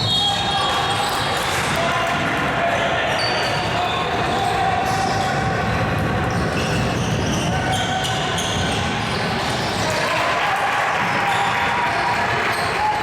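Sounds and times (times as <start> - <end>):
murmur of crowd voices: 0.0 - 13.0.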